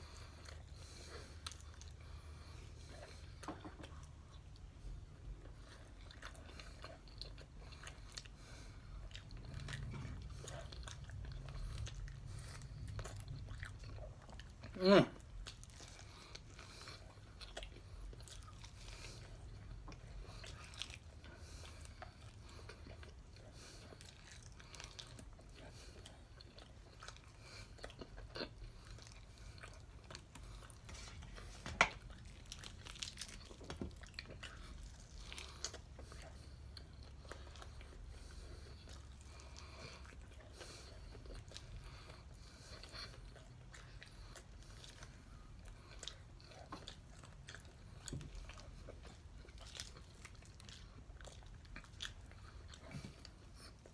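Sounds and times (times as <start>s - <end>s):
chewing chicken wings: 0.0s - 53.9s.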